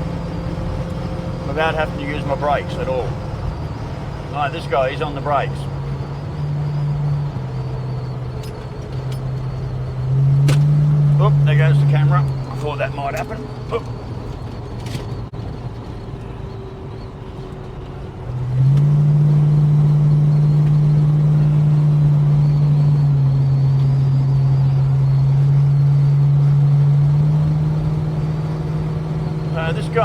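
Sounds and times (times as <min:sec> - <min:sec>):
car engine running while driving: 0:00.0 - 0:30.0.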